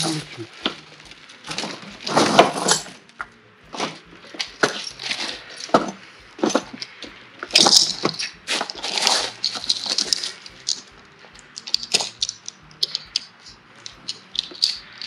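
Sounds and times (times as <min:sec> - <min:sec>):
snow chains clinking and rattling: 0:00.0 - 0:15.0.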